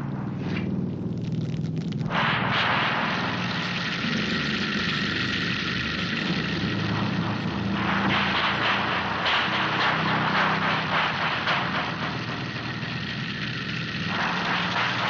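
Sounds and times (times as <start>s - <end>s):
chainsaw engine running: 0.3s - 15.0s.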